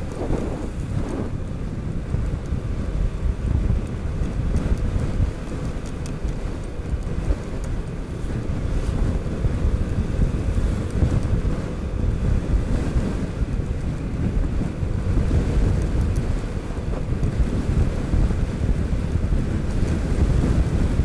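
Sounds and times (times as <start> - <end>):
scooter engine running: 0.0 - 21.0
wind buffeting microphone: 0.0 - 21.0.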